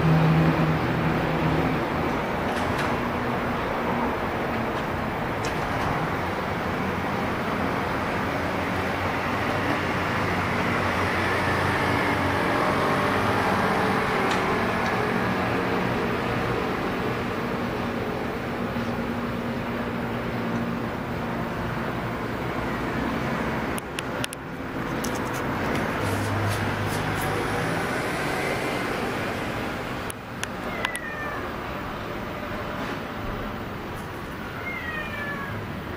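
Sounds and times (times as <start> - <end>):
city road traffic roar: 0.0 - 35.9.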